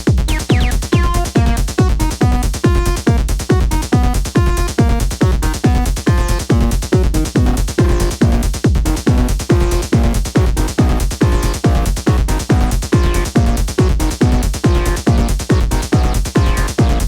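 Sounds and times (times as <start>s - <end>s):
techno kick drum: 0.0s - 17.0s
repeating synth bass: 0.1s - 17.0s.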